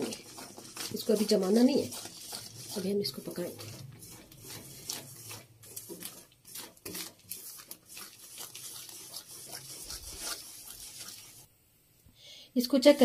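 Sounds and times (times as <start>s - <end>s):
spatula scraping metal pan: 0.0s - 11.5s.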